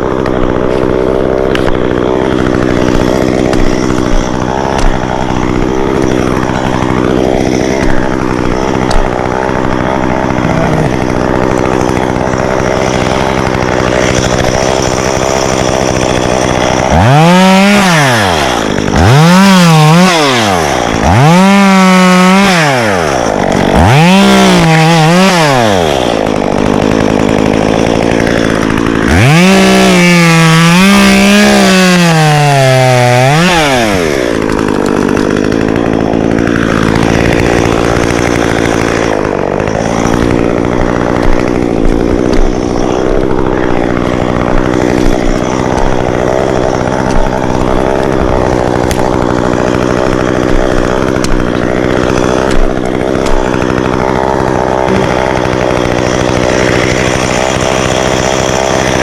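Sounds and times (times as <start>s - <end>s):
chainsaw idling and revving: 0.0s - 59.0s.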